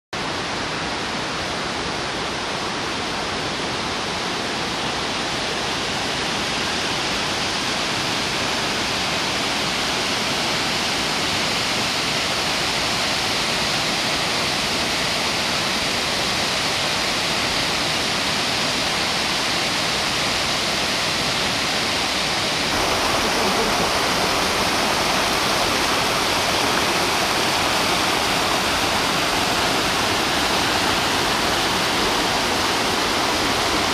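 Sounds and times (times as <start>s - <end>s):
waterfall roaring: 0.2s - 33.9s.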